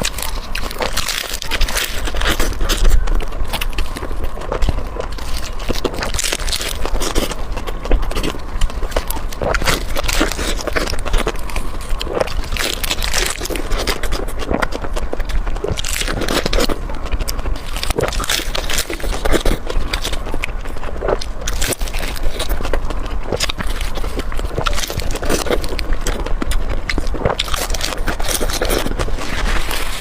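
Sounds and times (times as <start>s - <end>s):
person crunching bread: 0.0s - 30.0s.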